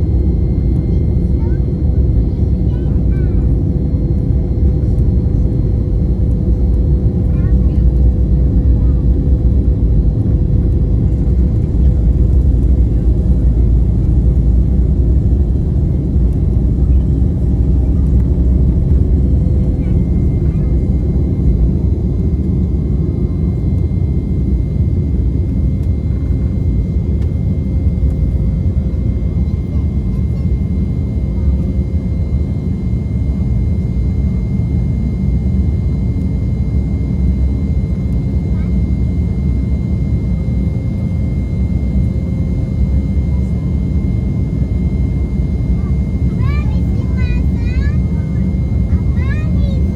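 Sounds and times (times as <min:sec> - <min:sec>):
jet engines low rumble: 0:00.0 - 0:49.9.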